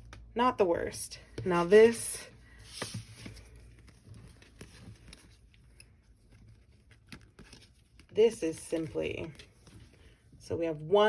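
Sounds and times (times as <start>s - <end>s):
cards tapping and rustling: 1.2s - 10.2s.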